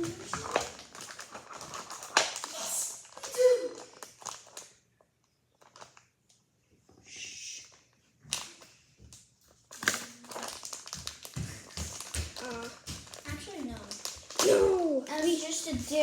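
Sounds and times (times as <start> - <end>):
packaging crinkling and rustling: 0.0 - 6.4, 7.6 - 16.0.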